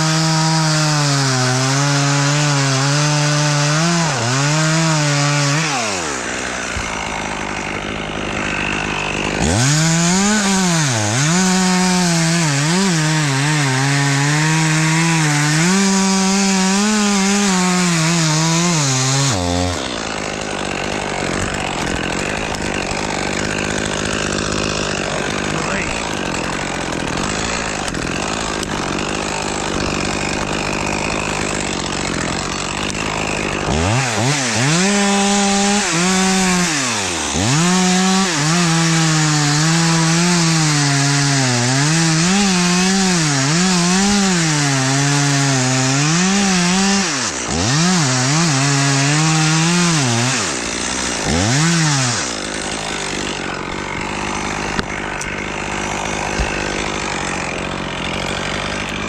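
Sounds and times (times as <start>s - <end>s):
tree creaking: 3.8s - 44.2s, 47.4s - 59.0s.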